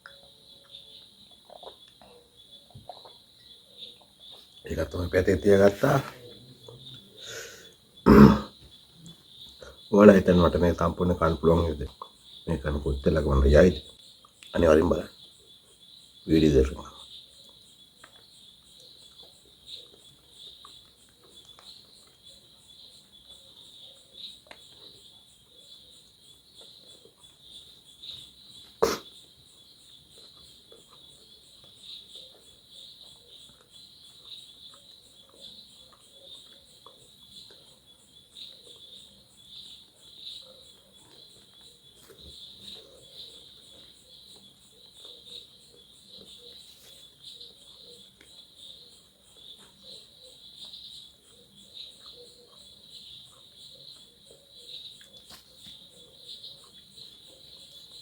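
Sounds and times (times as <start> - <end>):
small clicks and eating sounds: 0.0 - 4.7, 8.6 - 9.9, 11.9 - 12.4, 13.8 - 16.2, 16.8 - 58.0
insects chirping: 0.0 - 58.0.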